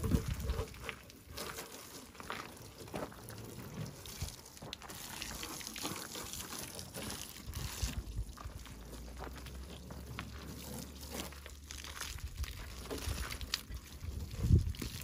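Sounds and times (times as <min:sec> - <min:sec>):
hose water spraying on metal: 0:00.0 - 0:15.0.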